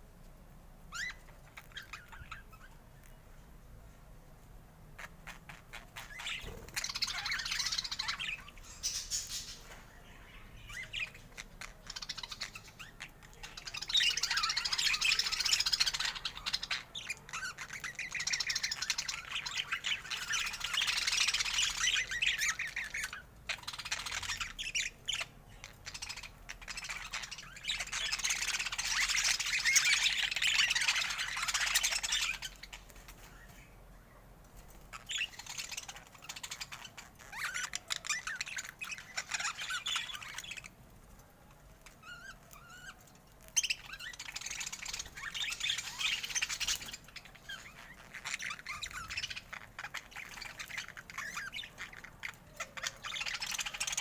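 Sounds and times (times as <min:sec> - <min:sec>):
budgerigars chattering and chirping: 0:00.9 - 0:03.4, 0:04.9 - 0:33.8, 0:34.6 - 0:40.8, 0:41.7 - 0:54.0.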